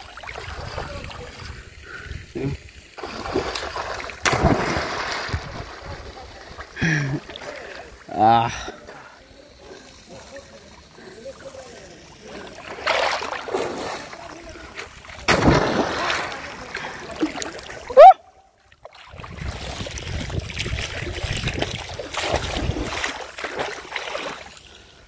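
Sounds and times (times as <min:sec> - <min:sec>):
water splashing and churning: 0:00.0 - 0:25.0.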